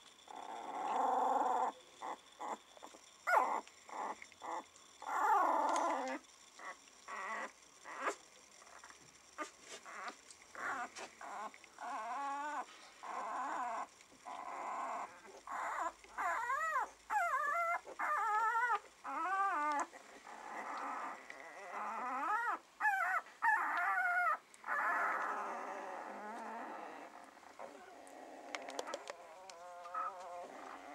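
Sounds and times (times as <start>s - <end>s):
puppies whimpering and squealing: 0.3s - 30.9s.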